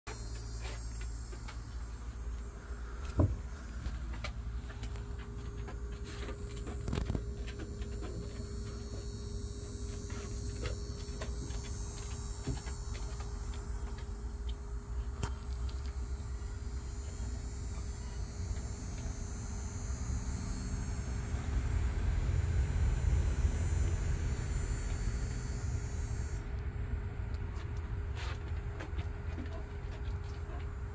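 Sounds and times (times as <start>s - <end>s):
faint hum: 0.1s - 30.9s.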